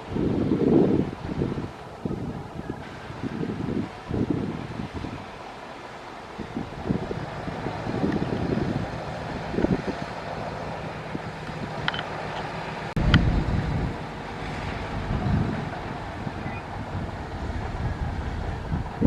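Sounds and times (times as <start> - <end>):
heavy diesel engine running: 1.8 - 19.0.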